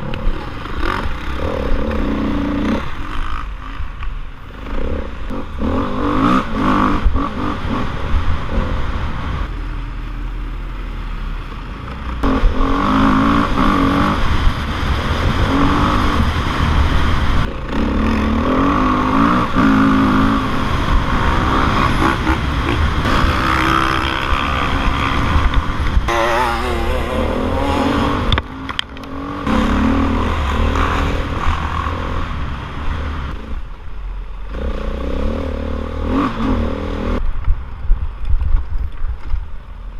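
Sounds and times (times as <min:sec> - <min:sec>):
off-road motorcycle engine revving: 0:00.0 - 0:33.8, 0:34.4 - 0:37.2.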